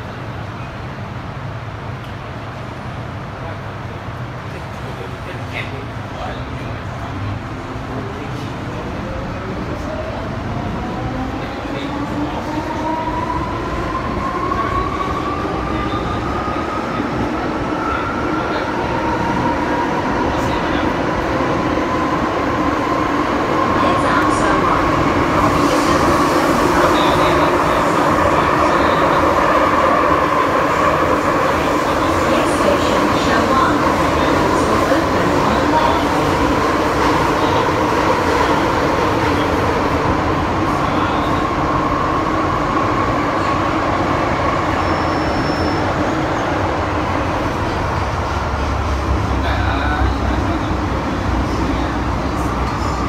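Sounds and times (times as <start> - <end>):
train wheels rumbling in tunnel: 0.0 - 53.0.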